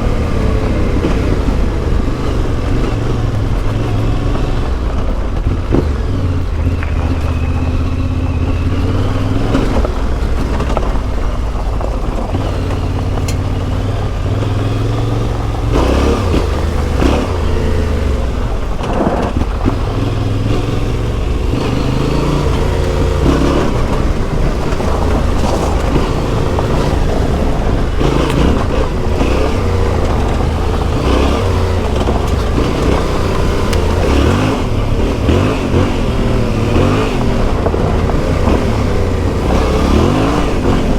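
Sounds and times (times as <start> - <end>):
motorcycle engine revving: 0.0 - 40.9
rough noise: 0.0 - 40.9.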